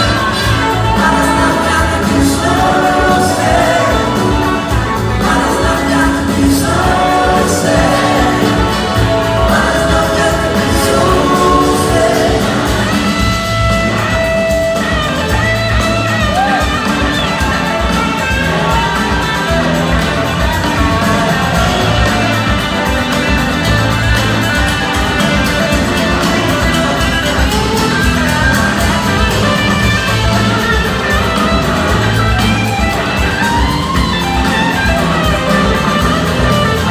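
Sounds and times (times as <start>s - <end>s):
blues-rock band playing: 0.0s - 36.9s
electric guitars: 0.0s - 36.9s
voices singing: 0.0s - 36.9s.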